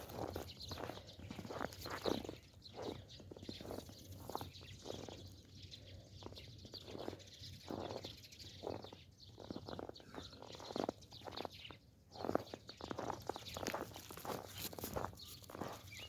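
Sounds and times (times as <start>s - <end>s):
footsteps crunching on snow: 0.0s - 16.0s.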